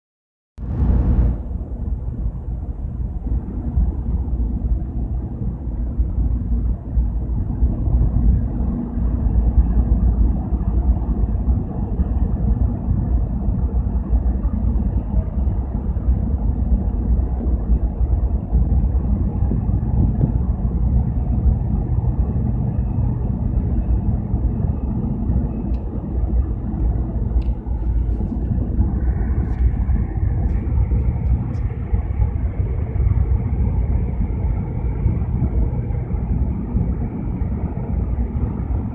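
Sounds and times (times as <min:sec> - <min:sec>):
diesel engine rumble: 0:00.6 - 0:38.9
high-pitched hum: 0:00.6 - 0:38.9.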